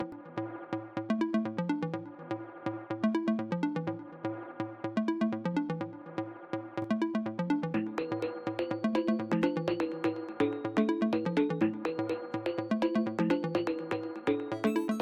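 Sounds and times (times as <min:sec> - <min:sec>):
electronic music with synth melody: 0:00.0 - 0:15.0.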